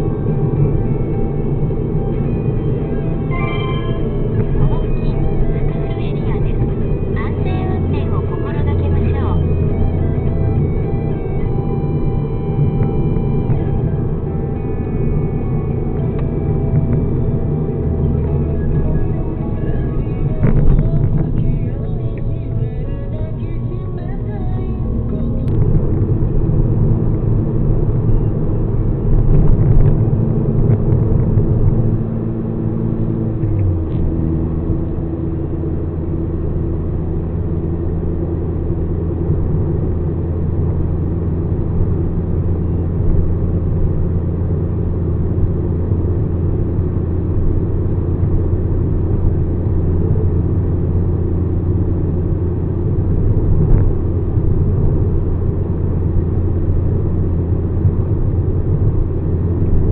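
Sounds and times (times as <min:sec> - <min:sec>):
rotary engine cruising: 0:00.0 - 0:59.9.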